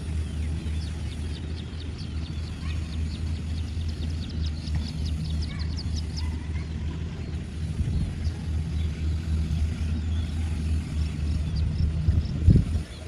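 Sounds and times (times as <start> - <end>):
birds chirping: 0.0 - 13.0
harvester engine droning: 0.0 - 13.0.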